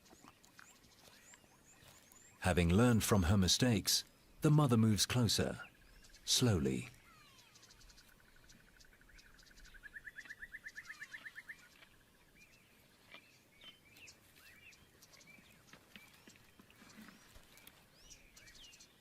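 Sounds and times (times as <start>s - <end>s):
bird chirps: 3.7s - 19.0s.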